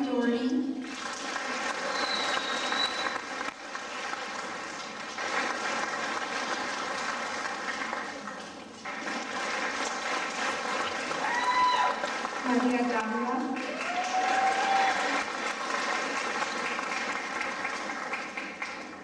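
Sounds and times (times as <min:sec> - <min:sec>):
audience applauding: 0:00.8 - 0:19.0.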